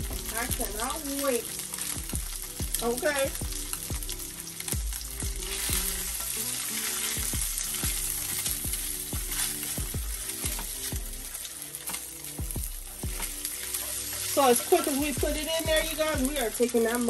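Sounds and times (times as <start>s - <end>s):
background music with steady beat: 0.0s - 17.0s
food sizzling in a pan: 0.0s - 17.0s.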